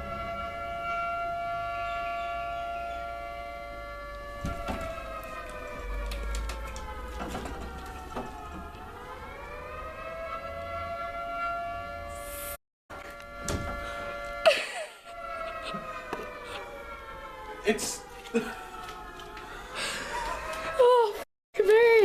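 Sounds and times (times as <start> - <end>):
wailing siren through phone speaker: 0.0 - 21.2.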